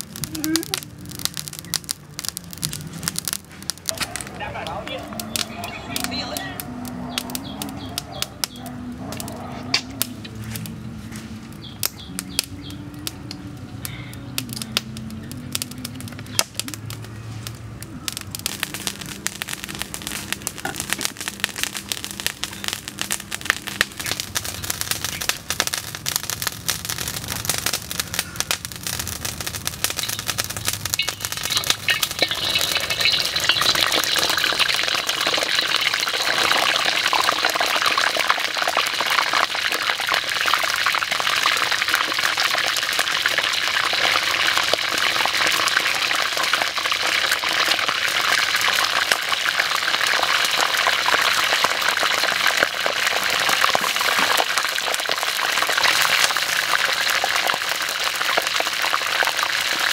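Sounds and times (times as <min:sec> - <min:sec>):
food frying in a wok: 0:00.0 - 0:05.5, 0:11.6 - 0:59.9.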